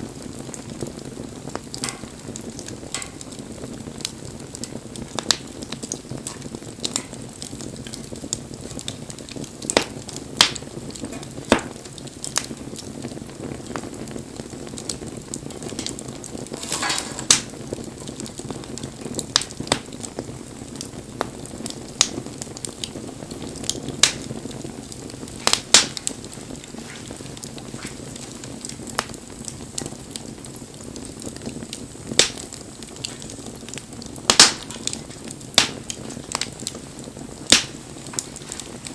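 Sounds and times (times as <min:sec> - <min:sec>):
fire hissing: 0:00.0 - 0:38.9
wood fire crackling: 0:00.0 - 0:38.9.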